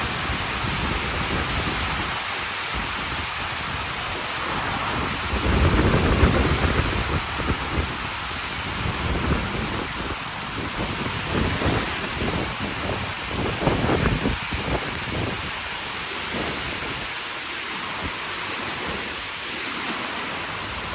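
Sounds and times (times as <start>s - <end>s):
heavy rain: 0.0s - 20.9s
wind gusting across microphone: 0.0s - 20.9s.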